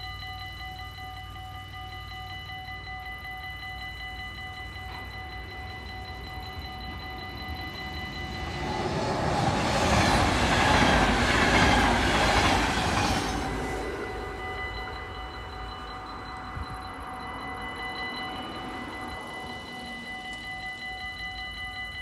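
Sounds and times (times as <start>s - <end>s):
level crossing bell ringing: 0.0s - 22.0s
train rumble and wheel noise: 0.0s - 22.0s.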